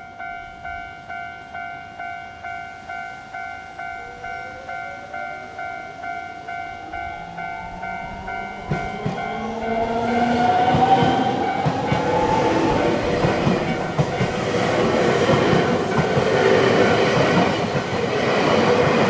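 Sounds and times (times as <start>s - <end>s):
level-crossing warning bell ringing: 0.0s - 18.9s.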